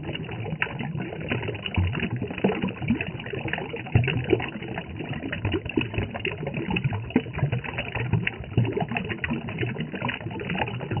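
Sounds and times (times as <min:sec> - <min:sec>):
stream splashing over rocks: 0:00.0 - 0:11.0.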